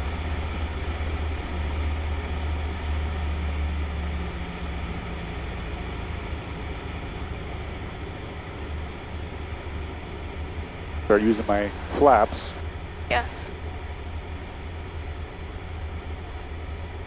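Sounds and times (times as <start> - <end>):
small plane engine droning: 0.0 - 17.0.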